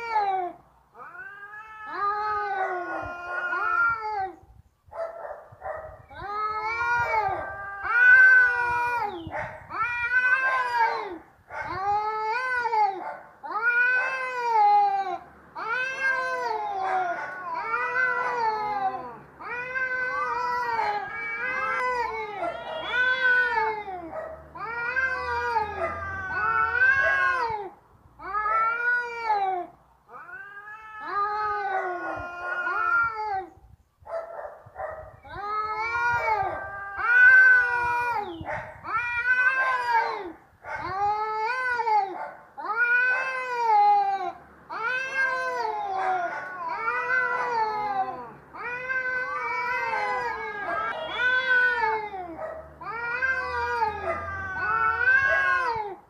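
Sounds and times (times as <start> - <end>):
cat yowling: 0.0 - 4.4, 6.1 - 33.5, 34.8 - 56.0.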